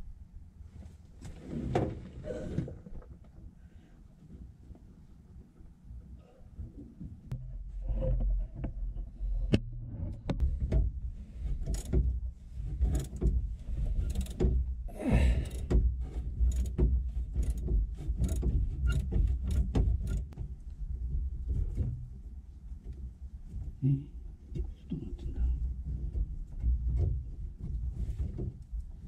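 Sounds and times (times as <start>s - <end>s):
low rumble of handling noise: 0.0s - 29.0s.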